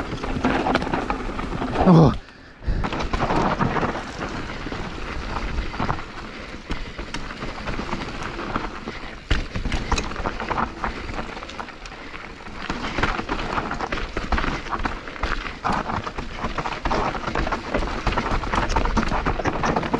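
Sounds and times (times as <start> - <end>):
bike tyres rolling over gravel: 0.0 - 19.9.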